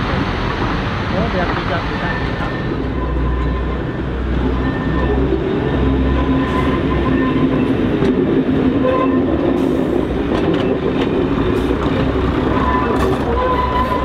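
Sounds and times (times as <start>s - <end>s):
rail clicks: 0.0s - 14.0s
train diesel engine drone: 0.0s - 14.0s.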